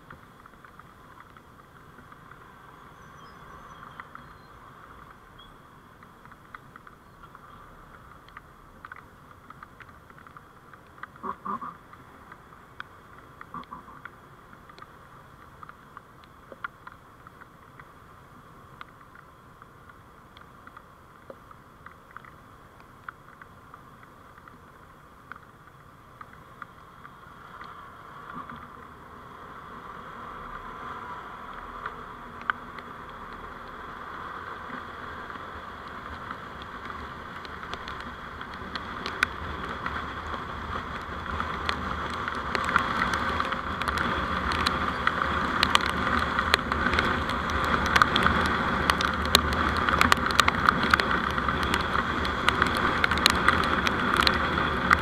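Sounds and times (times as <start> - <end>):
small clicks: 0.0 - 18.0, 18.7 - 29.0, 31.5 - 33.8, 34.6 - 55.0
vehicle road noise: 0.0 - 55.0.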